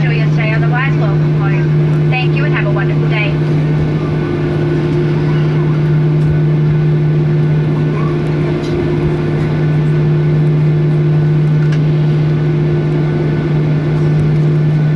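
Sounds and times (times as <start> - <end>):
jet engines idling drone: 0.0 - 14.9.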